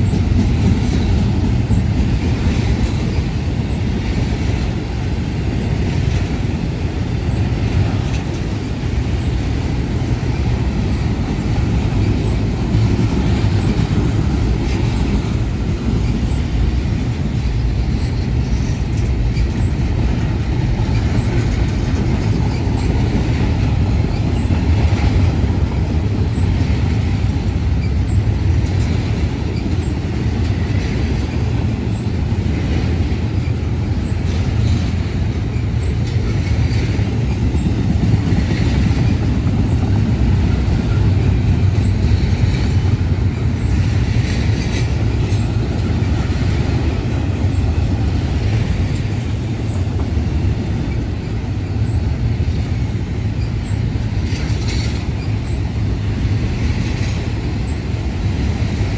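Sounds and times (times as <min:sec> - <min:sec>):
freight train wheels rumbling on rail: 0:00.0 - 0:58.9.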